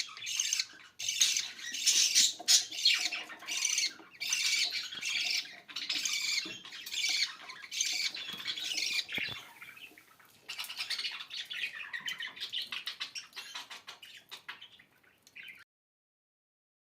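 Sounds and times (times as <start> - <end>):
budgerigars chirping and squawking: 0.0 - 15.6.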